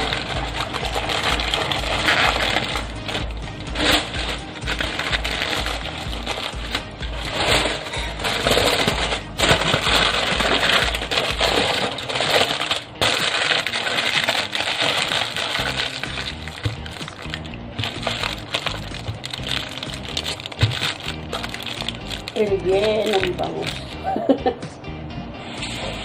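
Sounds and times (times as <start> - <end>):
aluminium foil crinkling: 0.0 - 24.2.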